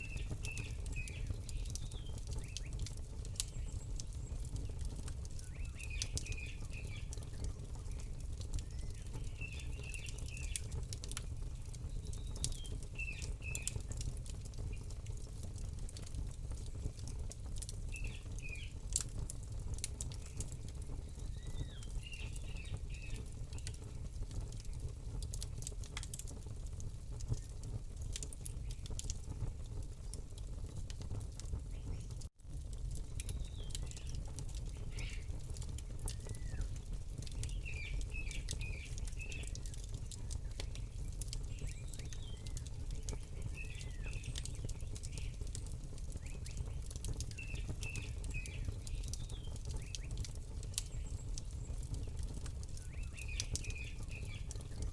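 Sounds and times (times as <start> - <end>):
small birds chirping: 0.0 - 25.2, 27.2 - 32.3, 33.0 - 54.9
campfire crackling and popping: 0.0 - 54.9.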